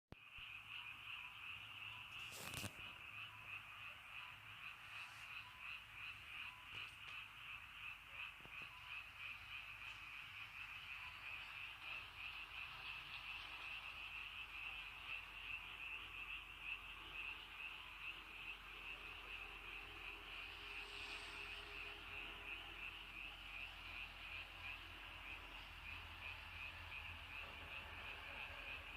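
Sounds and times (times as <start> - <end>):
chorus of frogs trilling: 0.2 - 28.9.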